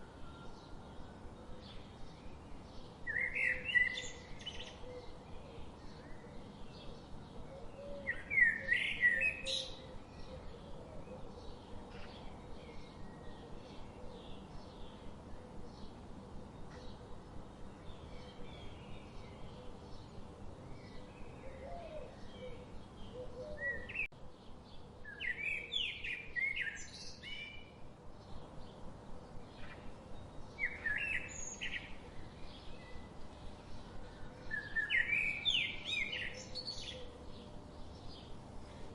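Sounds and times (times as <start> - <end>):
bird song phrases: 0.0 - 38.9.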